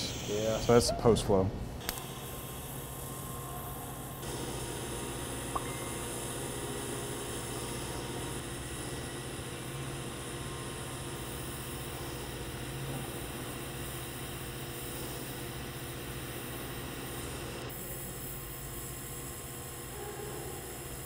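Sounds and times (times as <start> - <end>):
welding arc hiss and buzz: 0.0 - 0.9, 1.8 - 21.0.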